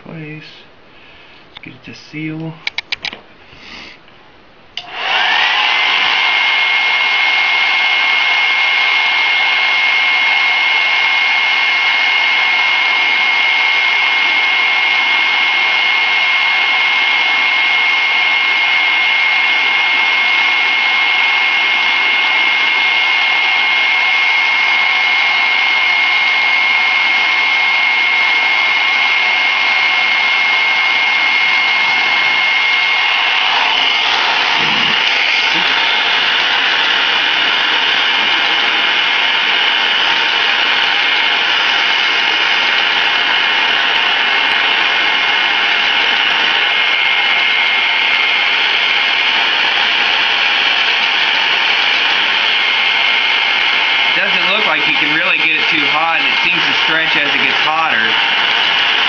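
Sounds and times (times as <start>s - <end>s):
hair dryer running: 4.8s - 59.0s.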